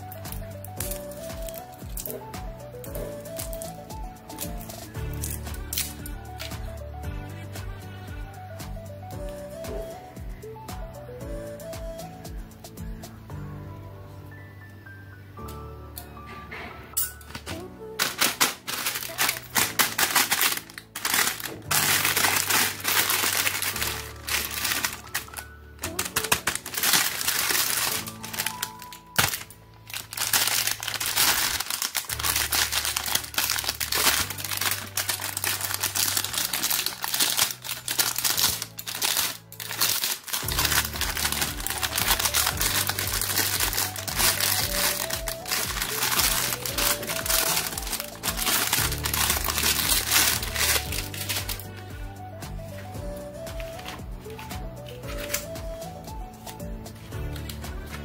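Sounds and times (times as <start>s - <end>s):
plastic wrappers crinkling: 0.0s - 6.9s, 17.2s - 52.0s, 52.8s - 58.0s
background music with bass line: 0.0s - 14.4s, 17.0s - 58.0s.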